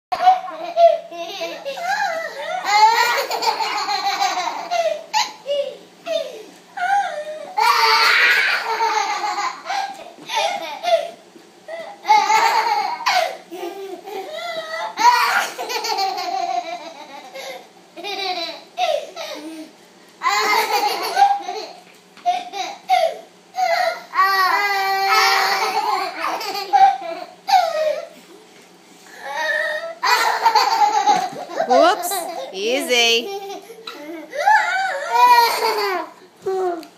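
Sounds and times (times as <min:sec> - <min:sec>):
children laughing and giggling: 0:00.2 - 0:28.2, 0:29.2 - 0:32.6, 0:33.2 - 0:36.9.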